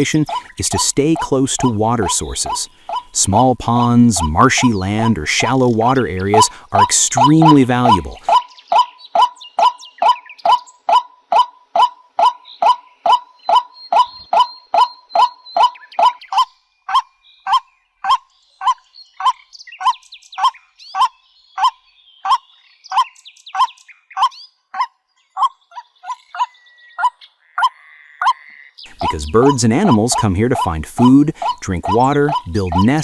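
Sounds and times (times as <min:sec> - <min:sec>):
higher bird calls: 0:00.0 - 0:33.0
waterhen calling hoarsely: 0:00.0 - 0:33.0.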